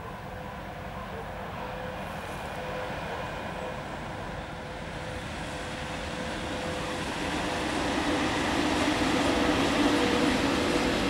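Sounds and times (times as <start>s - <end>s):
freight train passing: 0.0s - 11.0s.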